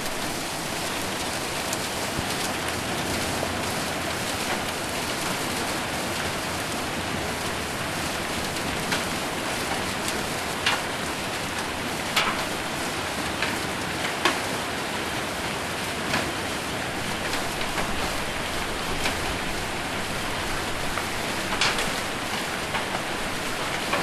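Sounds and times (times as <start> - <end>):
hail hitting a roof: 0.0 - 24.0
rain on a roof: 0.0 - 24.0.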